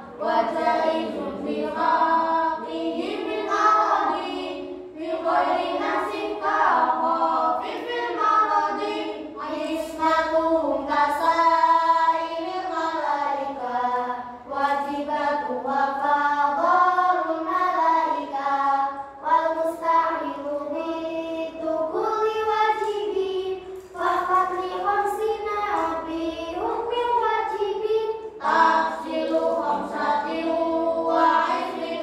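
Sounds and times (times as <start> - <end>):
children chanting in unison: 0.0 - 32.0.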